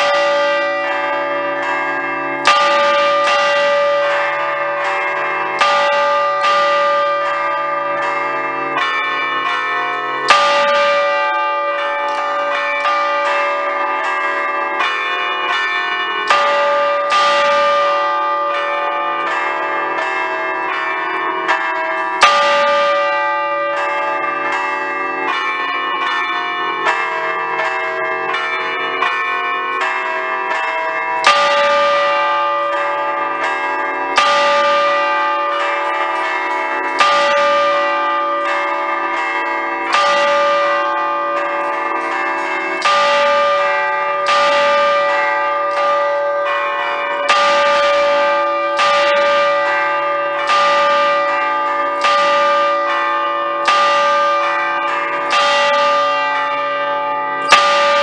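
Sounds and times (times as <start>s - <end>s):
church bells chiming: 0.0s - 58.0s.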